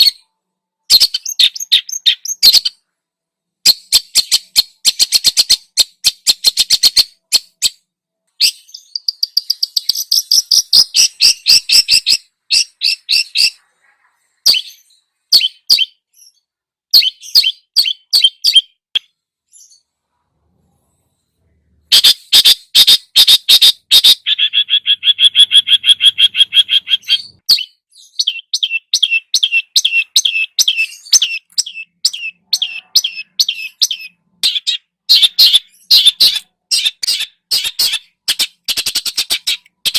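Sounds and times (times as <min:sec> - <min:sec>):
songbirds singing: 0:00.0 - 0:20.1, 0:21.4 - 0:39.9.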